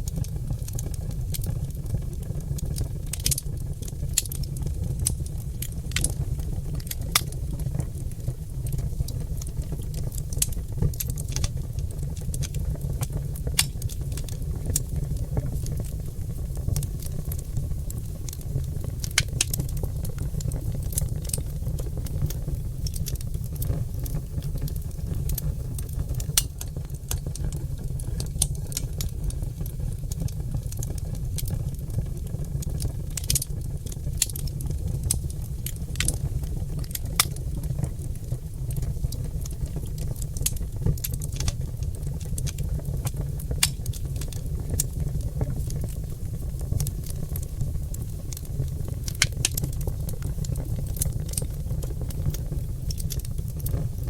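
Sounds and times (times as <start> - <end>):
logs crackling and popping: 0.0 - 54.0
low rumble of flames: 0.0 - 54.0.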